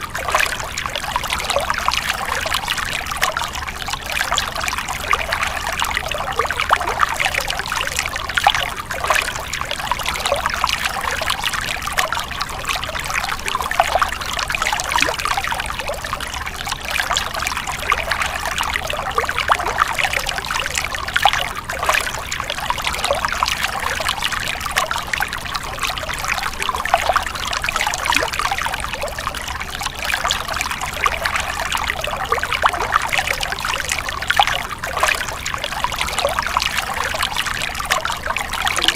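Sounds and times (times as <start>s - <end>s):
stream running and splashing: 0.0s - 38.9s.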